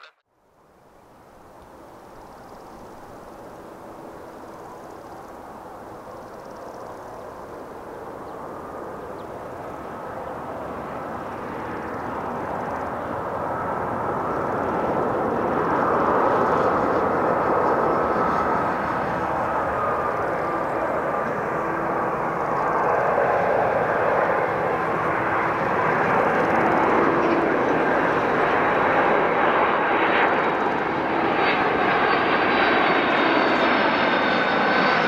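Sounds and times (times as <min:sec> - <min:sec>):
jet engines approaching: 0:01.0 - 0:35.0.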